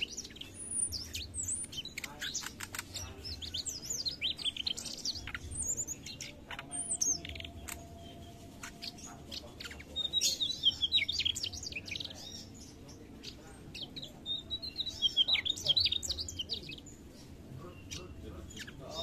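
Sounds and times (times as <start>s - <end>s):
flycatcher singing: 0.0s - 19.0s.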